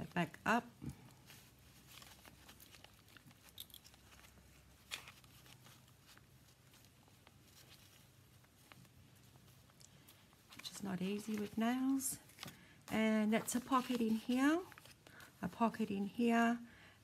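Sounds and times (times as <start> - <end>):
ribbon and paper rustling: 0.0 - 16.6.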